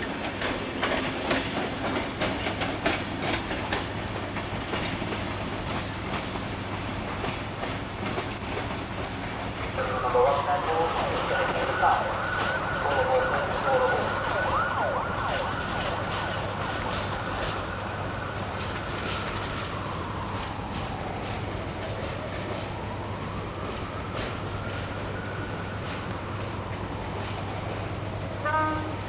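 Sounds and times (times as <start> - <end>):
train wheels clicking over rail joints: 0.0 - 25.1.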